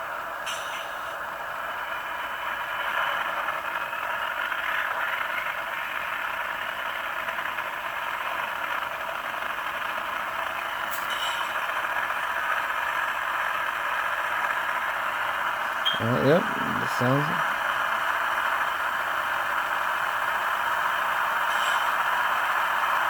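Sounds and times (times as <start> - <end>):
diesel locomotive running sound: 0.0 - 23.0.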